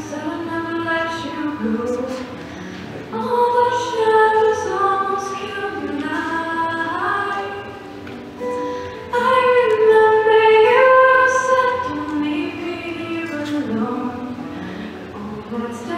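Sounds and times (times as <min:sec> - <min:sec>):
woman singing: 0:00.0 - 0:02.4, 0:03.1 - 0:07.9, 0:09.1 - 0:14.5, 0:15.2 - 0:15.9
acoustic guitar: 0:00.0 - 0:15.9.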